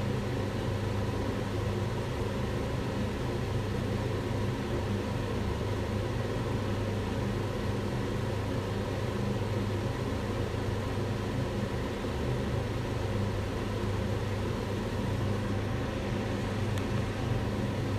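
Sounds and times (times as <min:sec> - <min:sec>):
range hood fan running: 0:00.0 - 0:17.9.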